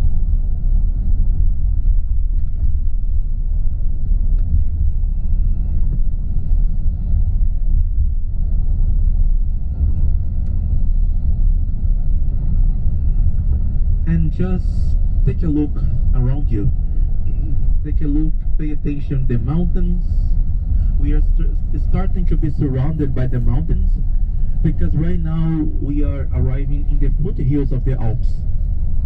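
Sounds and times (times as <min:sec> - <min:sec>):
engine and tyre rumble: 0:00.0 - 0:29.0.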